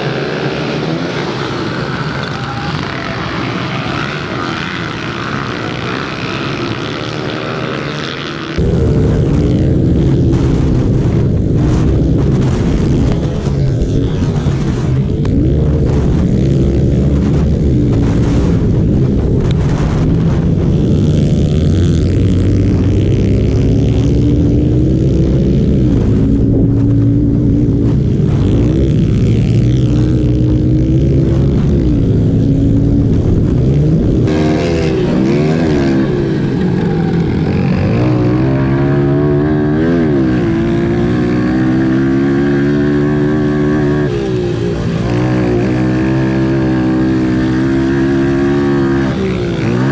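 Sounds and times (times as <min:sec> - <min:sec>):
pit bike engines revving: 0:00.0 - 0:49.9.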